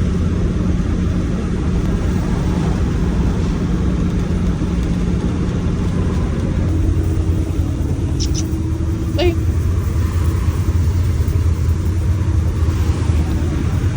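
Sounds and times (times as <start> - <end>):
constant hum: 0.0 - 13.9
road rumble: 0.0 - 13.9
vehicle engine drone: 0.0 - 13.9.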